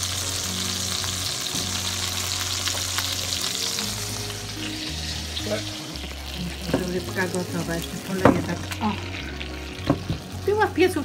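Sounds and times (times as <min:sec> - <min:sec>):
background music with low bass: 0:00.0 - 0:11.0
glaze sizzling and popping: 0:00.0 - 0:11.0.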